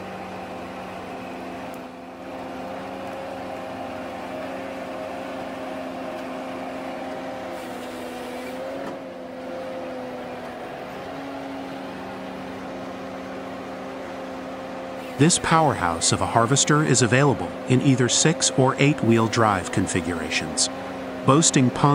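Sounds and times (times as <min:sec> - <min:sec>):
forestry harvester engine humming: 0:00.0 - 0:21.9.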